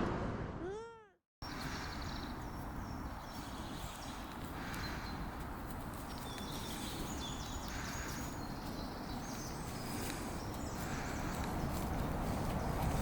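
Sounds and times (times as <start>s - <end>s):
bird chirping: 1.4s - 13.0s
wind rumble on microphone: 1.4s - 13.0s.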